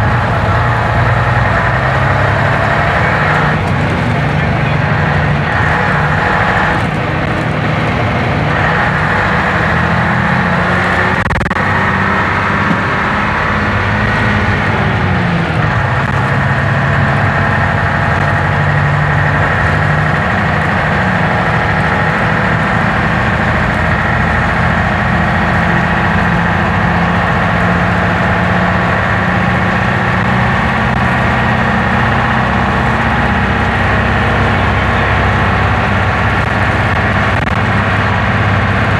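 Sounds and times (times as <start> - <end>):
bus diesel engine running: 0.0 - 38.9
steady whine: 0.0 - 38.9.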